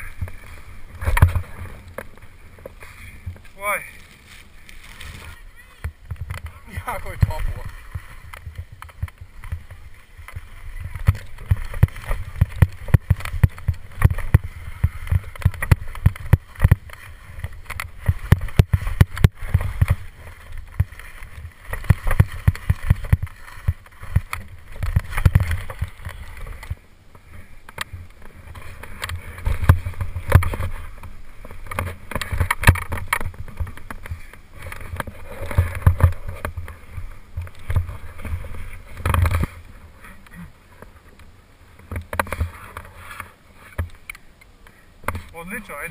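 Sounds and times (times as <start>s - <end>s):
skis scraping on hard snow: 0.0s - 41.1s, 41.8s - 43.9s.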